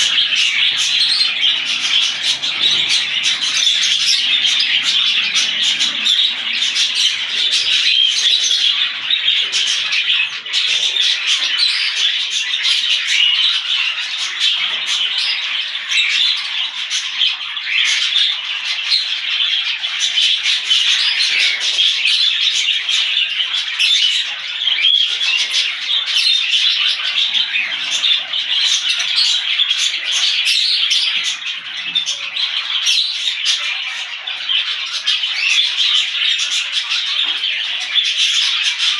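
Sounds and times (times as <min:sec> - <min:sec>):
parrots chattering and squawking: 0:00.0 - 0:38.9.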